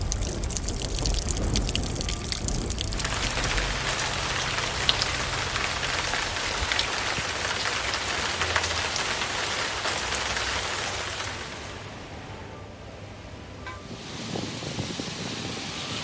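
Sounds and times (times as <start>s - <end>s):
low hum: 0.0s - 14.8s
heavy rain falling: 0.0s - 16.0s.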